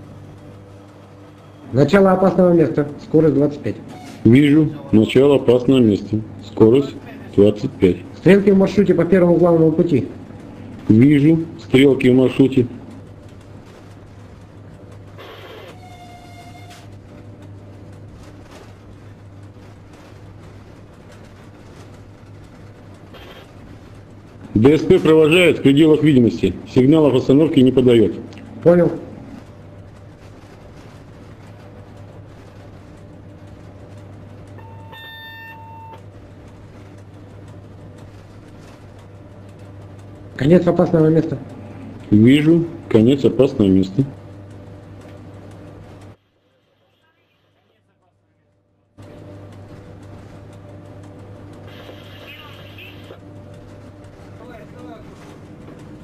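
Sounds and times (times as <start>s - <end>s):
electric locomotive hum: 0.0s - 56.0s.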